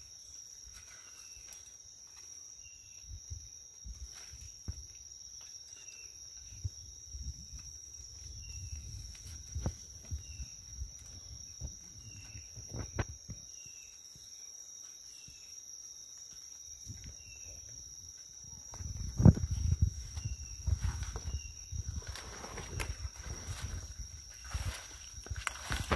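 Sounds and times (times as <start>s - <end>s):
dry leaves and twigs rustling: 0.0s - 25.9s.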